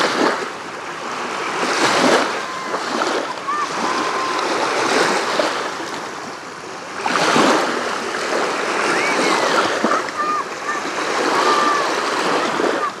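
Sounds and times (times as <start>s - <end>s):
small waves lapping on sandy shore: 0.0s - 13.0s.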